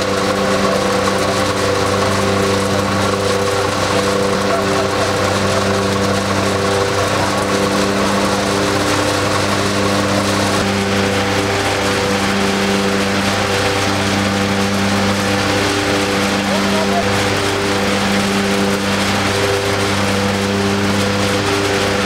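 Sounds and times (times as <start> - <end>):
husking machine hum and hiss: 0.0 - 22.0.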